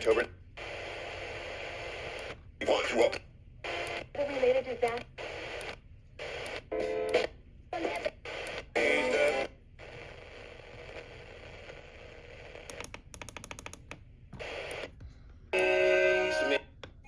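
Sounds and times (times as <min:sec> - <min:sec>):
snatches of broadcast audio: 0:00.0 - 0:17.0.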